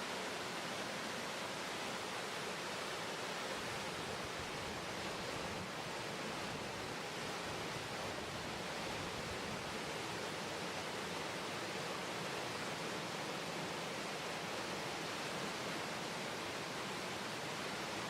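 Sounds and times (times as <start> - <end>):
water rushing down rapids: 0.0 - 18.0.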